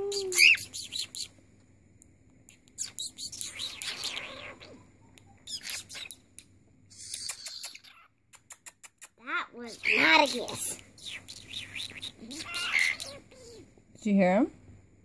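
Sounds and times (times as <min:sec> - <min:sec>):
cockatiel chirping and chattering: 0:00.0 - 0:01.3, 0:02.5 - 0:13.6.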